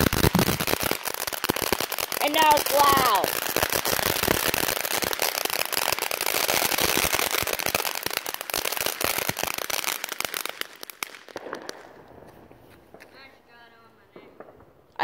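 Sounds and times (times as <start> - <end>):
firework crackling and popping: 0.0 - 15.0.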